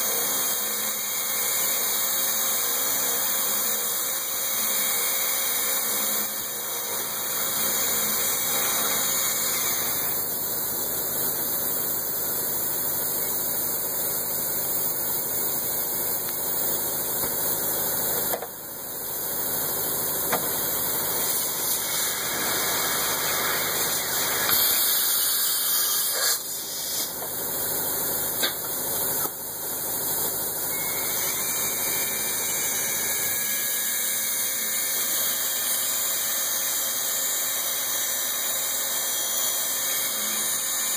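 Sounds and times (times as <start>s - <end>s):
machine tool whirring: 0.0s - 40.9s.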